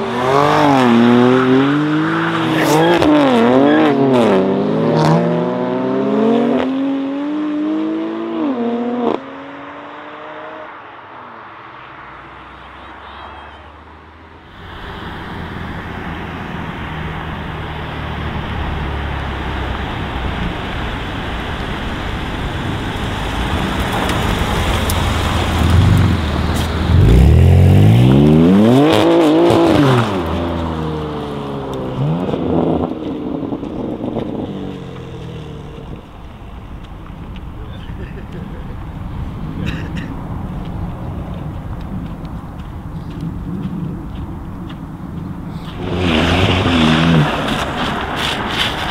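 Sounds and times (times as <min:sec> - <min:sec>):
car engine revving: 0:00.0 - 0:11.4, 0:13.7 - 0:41.6, 0:45.5 - 0:48.9
car exhaust passing by: 0:00.0 - 0:48.9.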